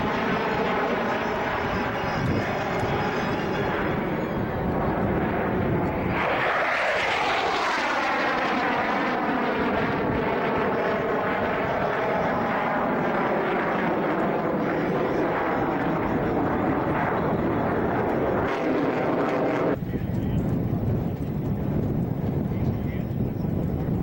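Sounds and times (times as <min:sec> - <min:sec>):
airplane flying past: 0:00.0 - 0:23.9.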